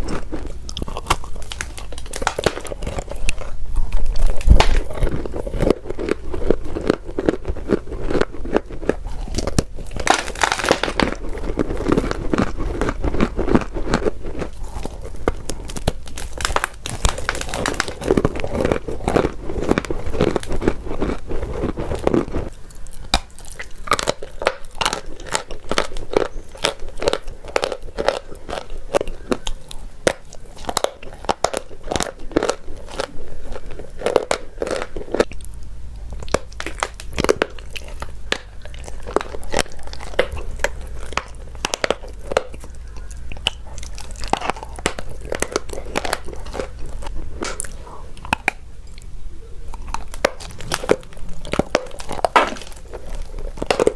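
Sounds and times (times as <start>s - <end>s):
chalk being chewed: 0.0s - 53.9s.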